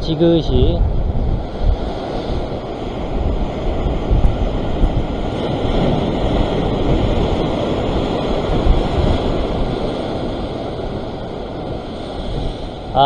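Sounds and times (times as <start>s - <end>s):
wind buffeting microphone: 0.0s - 13.0s
surf breaking over rocks: 0.8s - 13.0s.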